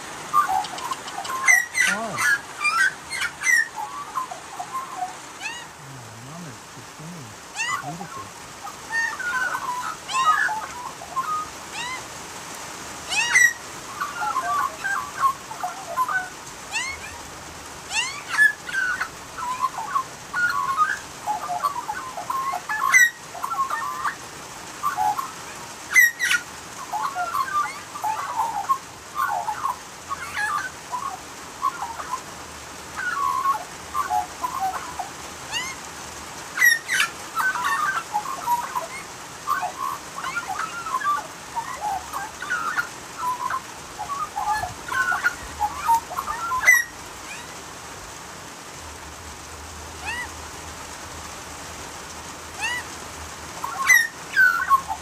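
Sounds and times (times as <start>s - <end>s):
magpies warbling: 0.3s - 12.1s, 13.0s - 17.3s, 17.9s - 24.2s, 24.8s - 32.3s, 32.9s - 35.8s, 36.6s - 47.6s, 50.0s - 50.4s, 52.6s - 52.9s, 53.6s - 55.0s.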